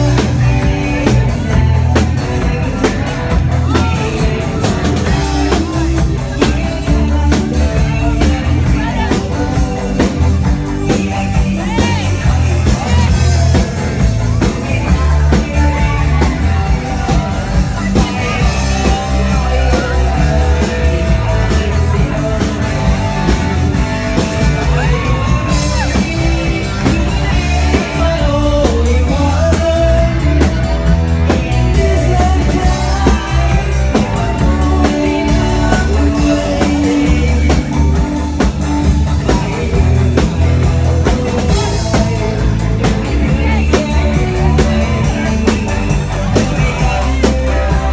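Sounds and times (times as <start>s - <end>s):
live band playing amplified music: 0.0s - 47.9s
person singing: 0.0s - 47.9s.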